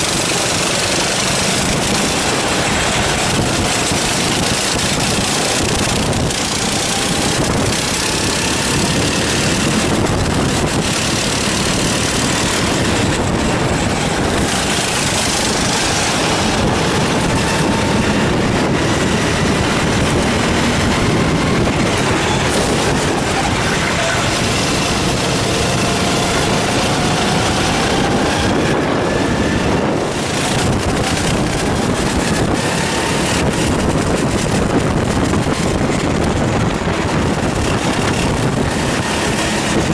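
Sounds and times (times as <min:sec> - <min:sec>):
loud rushing noise: 0:00.0 - 0:39.9
racing kart engine: 0:00.0 - 0:39.9.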